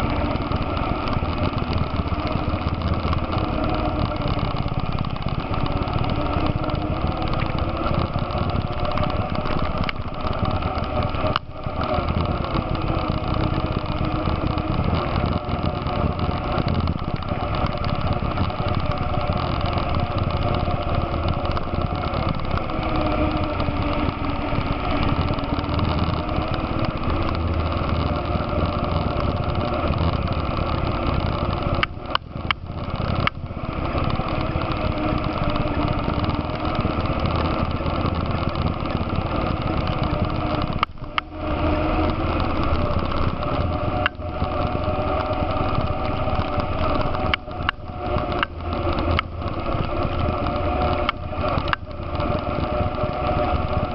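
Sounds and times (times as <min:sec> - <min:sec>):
atv engine running: 0:00.0 - 0:53.9.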